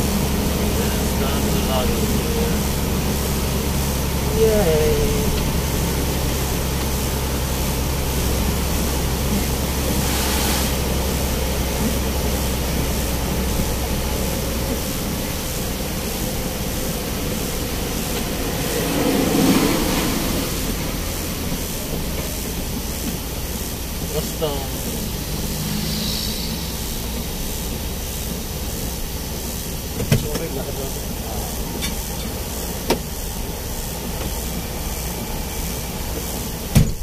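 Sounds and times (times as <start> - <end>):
tyres hissing on wet road: 0.0 - 37.0
vehicle engine and tyre drone: 0.0 - 37.0.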